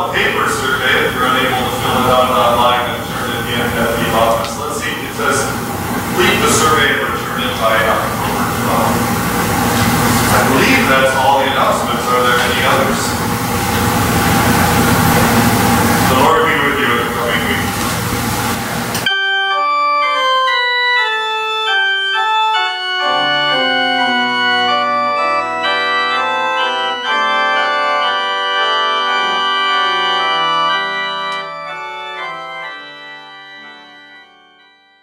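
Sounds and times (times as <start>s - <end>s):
church organ playing: 0.0s - 35.0s.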